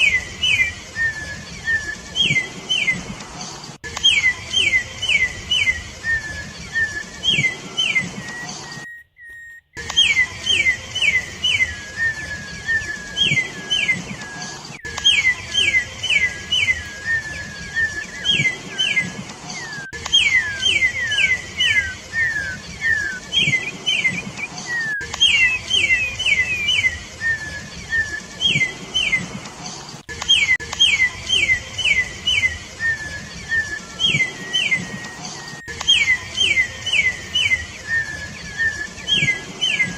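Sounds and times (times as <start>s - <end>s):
bird singing whistled notes: 0.0s - 3.2s, 3.8s - 29.4s, 30.0s - 39.9s.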